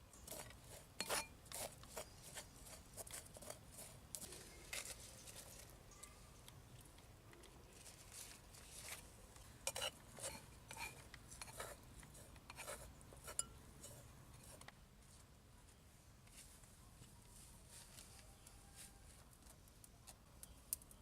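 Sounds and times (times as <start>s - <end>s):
faint clicks and scrapes: 0.2s - 15.3s, 16.2s - 21.0s.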